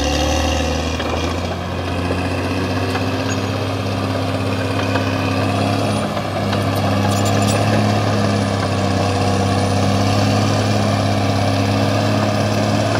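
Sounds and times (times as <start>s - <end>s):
bulldozer diesel engine running: 0.0s - 12.9s.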